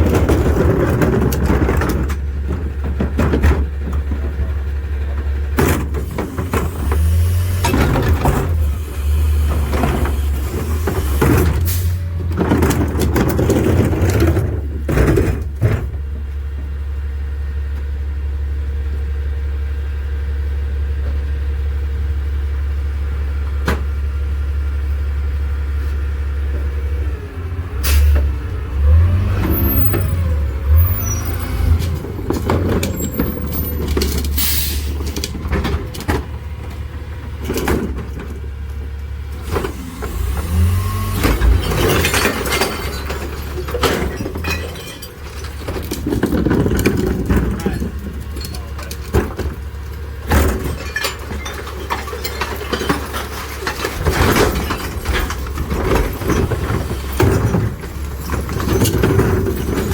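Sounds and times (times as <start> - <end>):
garbage truck engine and packer: 0.0 - 59.9.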